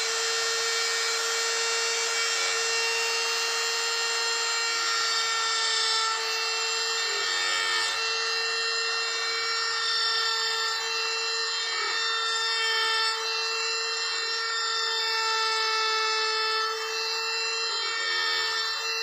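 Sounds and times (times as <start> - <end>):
power tool whining on wood: 0.0 - 19.0.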